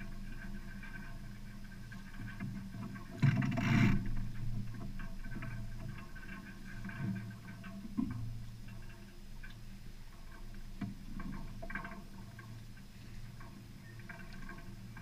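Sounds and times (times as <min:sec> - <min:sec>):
water washing along boat hull: 0:00.0 - 0:15.0.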